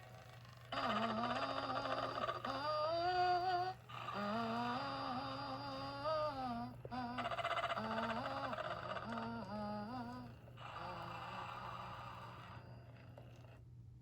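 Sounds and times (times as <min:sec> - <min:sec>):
recorded voice humming a tune: 0:00.0 - 0:13.4
steady low hum: 0:00.0 - 0:14.0.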